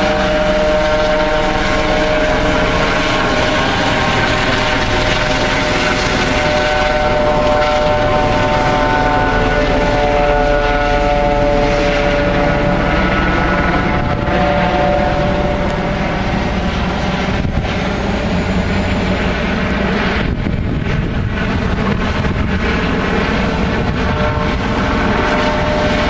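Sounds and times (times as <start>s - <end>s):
helicopter rotor and engine drone: 0.0s - 26.0s.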